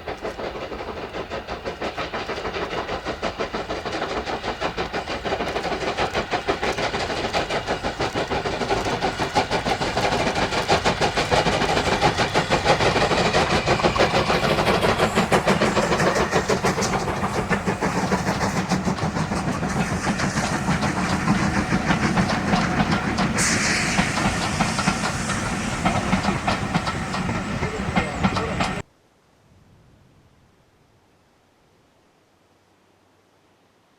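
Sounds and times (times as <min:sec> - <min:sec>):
steam hissing: 0:00.0 - 0:28.8
steam locomotive exhaust beats: 0:00.0 - 0:28.8
wheels clicking over rail joints: 0:00.0 - 0:28.8.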